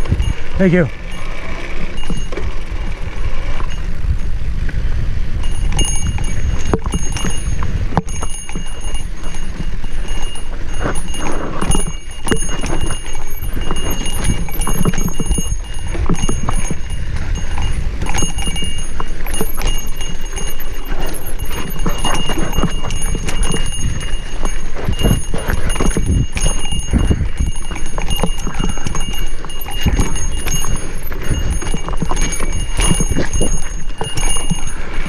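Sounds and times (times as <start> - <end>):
mountain bike rattling: 0.0 - 35.0
wind buffeting microphone: 0.0 - 35.0.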